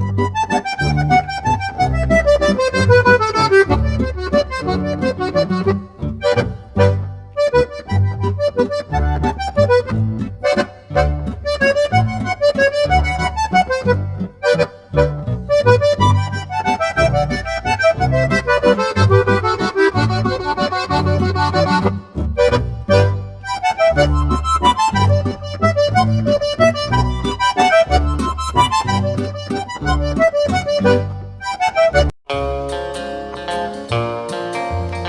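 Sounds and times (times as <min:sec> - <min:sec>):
instrumental background music: 0:00.0 - 0:35.0.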